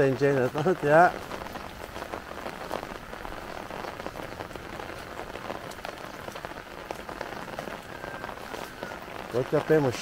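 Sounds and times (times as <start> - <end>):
rain on wet ground: 0.0 - 10.0
raindrops ticking: 0.0 - 10.0.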